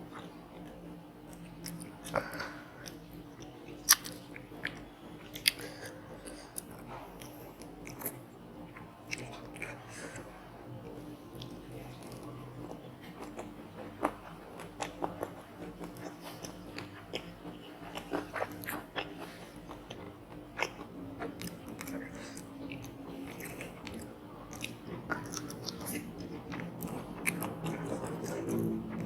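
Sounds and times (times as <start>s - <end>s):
crunching and chewing food: 0.0s - 29.0s.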